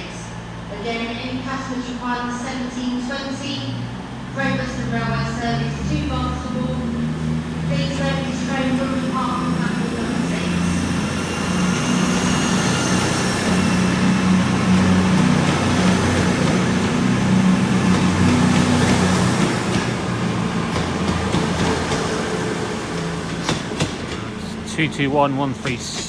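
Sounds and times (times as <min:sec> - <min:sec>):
train diesel engines running: 0:00.0 - 0:26.0.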